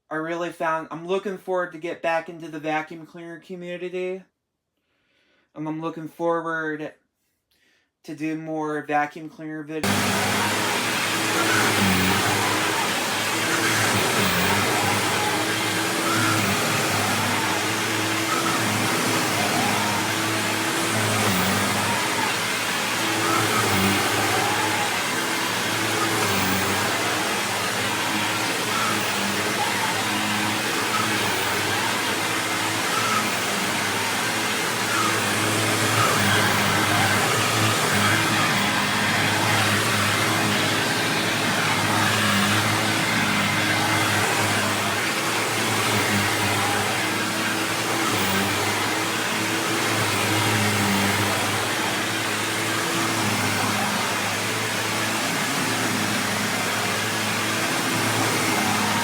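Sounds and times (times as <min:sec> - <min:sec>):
vacuum cleaner running: 0:09.8 - 0:59.0.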